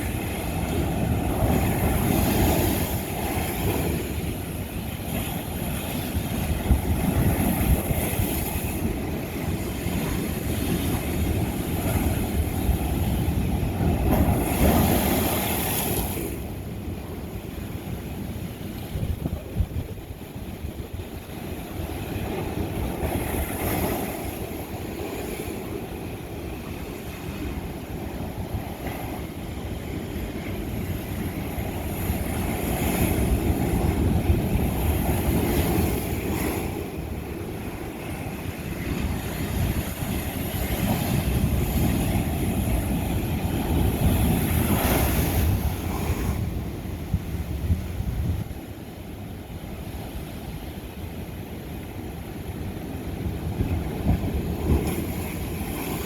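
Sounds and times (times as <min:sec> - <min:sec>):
ocean waves crashing on rock: 0:00.0 - 0:56.0.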